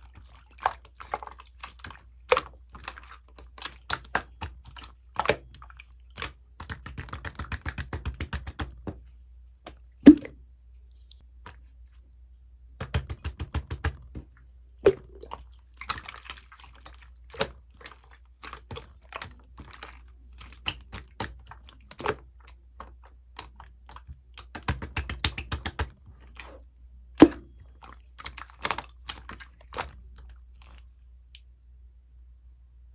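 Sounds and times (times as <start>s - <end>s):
slime squished by hand: 0.0s - 8.6s, 12.8s - 31.6s.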